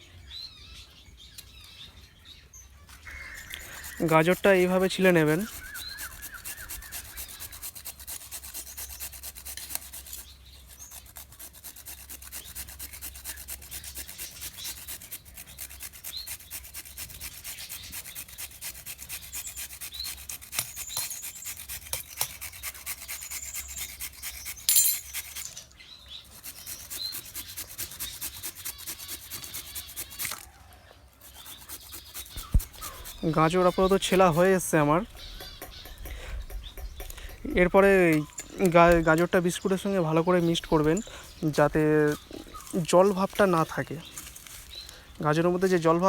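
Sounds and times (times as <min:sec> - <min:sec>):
peeler scraping carrot: 0:03.0 - 0:30.6, 0:31.2 - 0:46.0.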